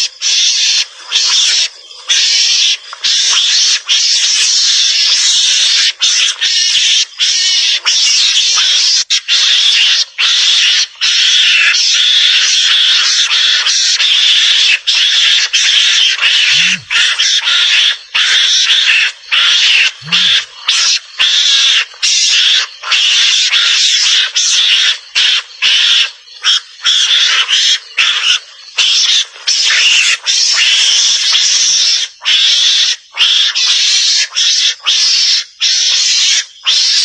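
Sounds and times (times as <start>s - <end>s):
mongoose hissing chatter: 0.0s - 37.0s.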